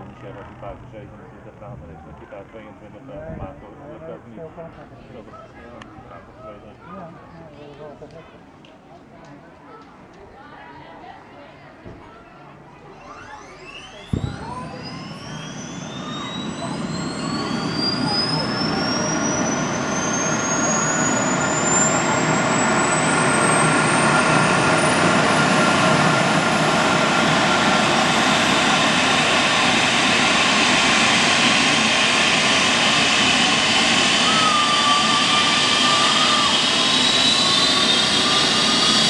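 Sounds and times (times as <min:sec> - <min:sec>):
helicopter turbine engines whining: 0:00.0 - 0:07.7, 0:12.8 - 0:39.0.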